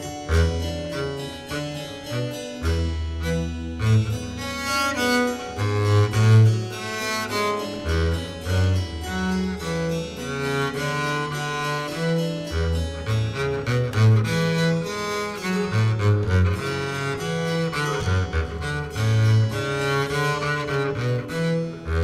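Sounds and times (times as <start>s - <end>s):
cello: 0.0s - 22.0s
harpsichord: 0.0s - 22.0s.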